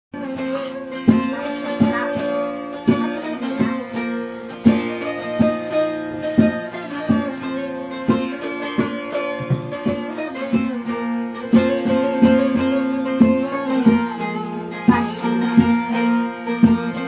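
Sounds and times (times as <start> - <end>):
plucked long-necked lute melody: 0.2 - 17.0.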